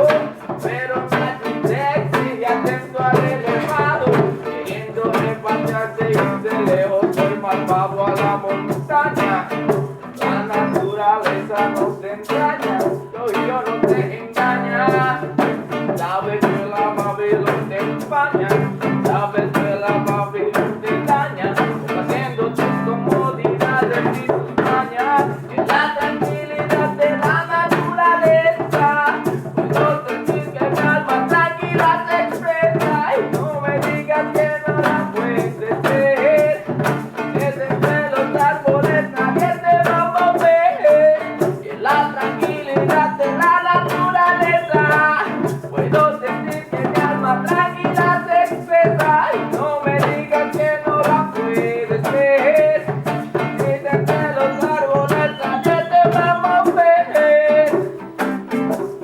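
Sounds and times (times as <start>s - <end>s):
reggae song with guitar and drums: 0.0s - 59.0s.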